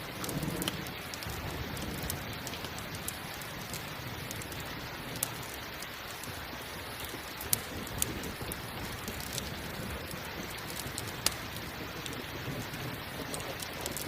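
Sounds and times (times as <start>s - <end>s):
campfire crackling and popping: 0.0s - 14.0s
steady rain: 0.0s - 14.0s.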